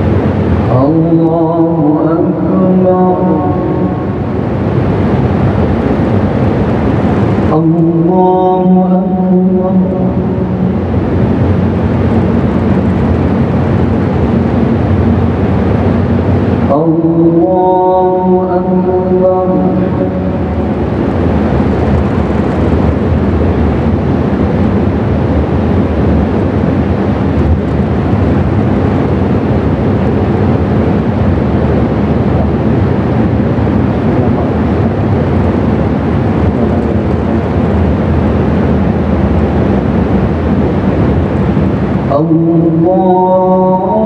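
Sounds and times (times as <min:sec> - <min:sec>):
faint low hum: 0:00.0 - 0:44.0
steady rushing noise: 0:00.0 - 0:44.0.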